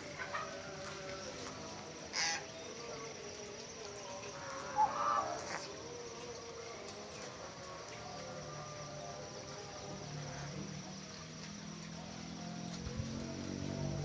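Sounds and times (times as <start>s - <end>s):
faint insect chirring: 0.0s - 14.0s.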